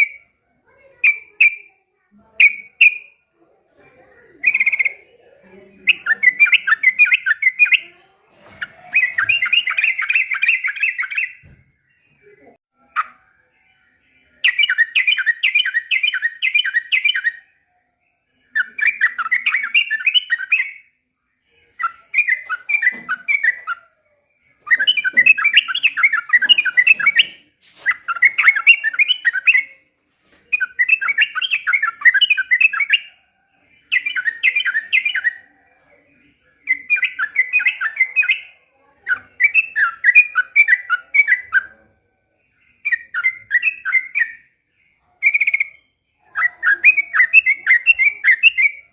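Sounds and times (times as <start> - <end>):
bulbul chattering song: 0.0 - 48.9.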